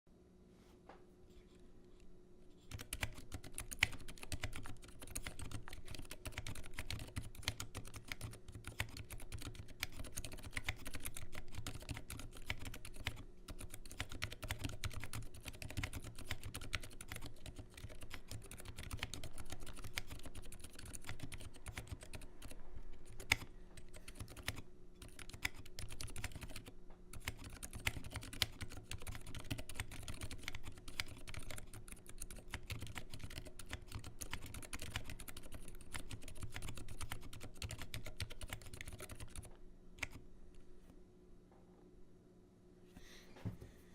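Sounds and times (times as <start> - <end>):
fast typing on mechanical keyboard: 2.7 - 40.2.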